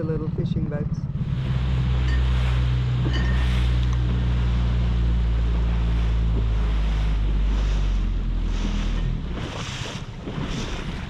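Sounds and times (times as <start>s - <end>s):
outboard motor running: 0.0s - 11.0s
water noise: 0.0s - 11.0s.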